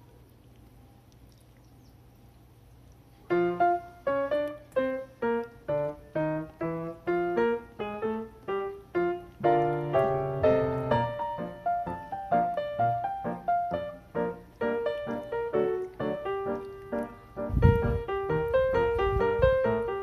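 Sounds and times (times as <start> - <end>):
faint low background noise: 0.0 - 20.0
piano music: 3.3 - 20.0.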